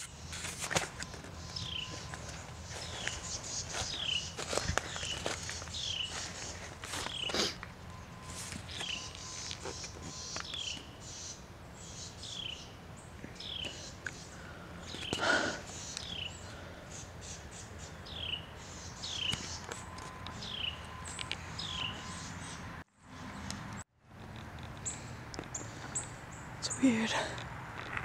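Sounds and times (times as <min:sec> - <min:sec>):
small bird calling: 0:00.0 - 0:23.6.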